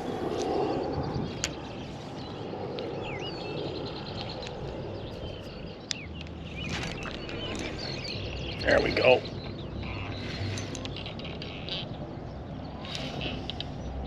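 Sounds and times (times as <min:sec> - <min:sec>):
low rumble: 0:00.0 - 0:14.0
small birds chirping: 0:00.0 - 0:14.0.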